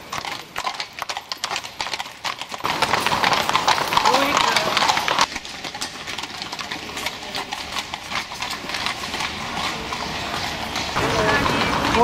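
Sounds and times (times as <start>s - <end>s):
horse hooves clip-clopping on street: 0.0s - 12.0s.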